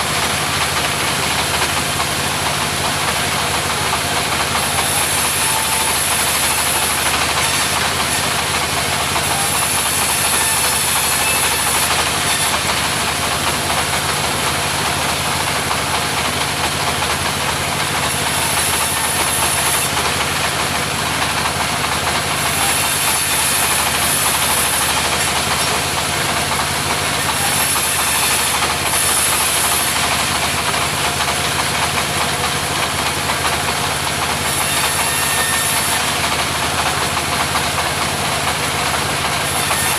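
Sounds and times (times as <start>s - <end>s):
sawmill engine and blade running: 0.0s - 39.9s.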